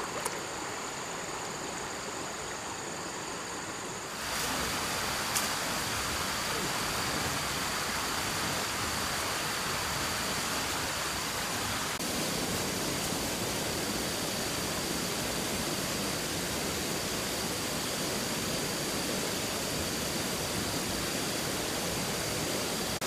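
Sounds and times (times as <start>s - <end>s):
steady rushing hiss: 0.0s - 23.0s.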